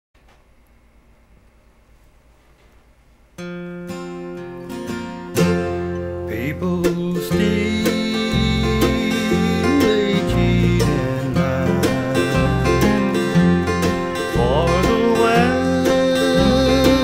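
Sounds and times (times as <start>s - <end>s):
acoustic guitar strumming: 3.4s - 17.0s.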